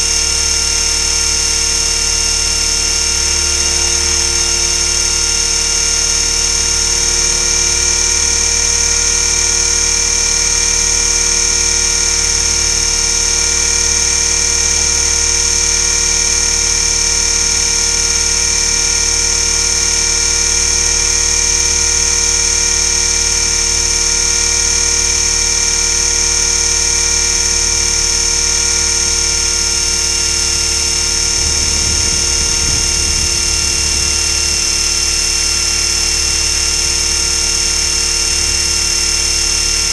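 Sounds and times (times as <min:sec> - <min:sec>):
rc helicopter motor whining: 0:00.0 - 0:39.9.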